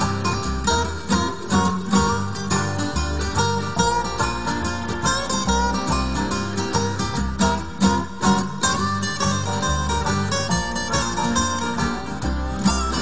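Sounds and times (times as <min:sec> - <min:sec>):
picked acoustic guitar: 0:00.0 - 0:13.0
steady bass line: 0:00.0 - 0:13.0.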